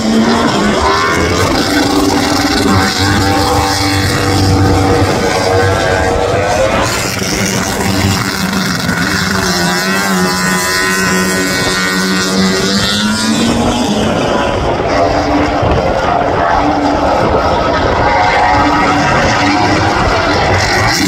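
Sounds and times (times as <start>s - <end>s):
racing motorcycle engines revving: 0.0s - 21.0s.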